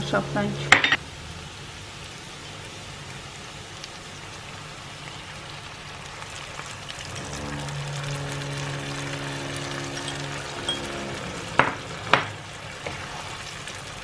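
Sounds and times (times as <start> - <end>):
meat and onions sizzling in a pan: 1.0 - 14.0.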